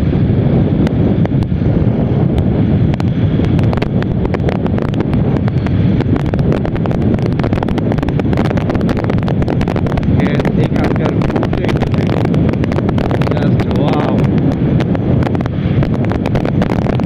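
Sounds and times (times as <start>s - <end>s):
wind rushing over microphone: 0.0s - 17.0s
crackling clicks: 2.9s - 17.0s.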